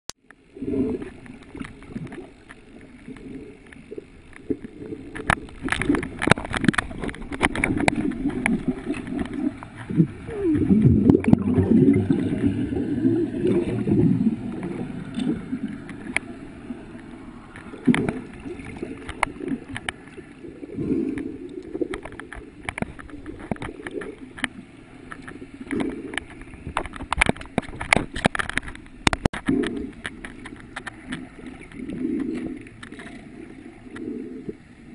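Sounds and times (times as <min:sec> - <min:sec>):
sharp clicks and crackles: 0:00.1 - 0:34.8
underwater gurgling and swishing: 0:00.2 - 0:34.9.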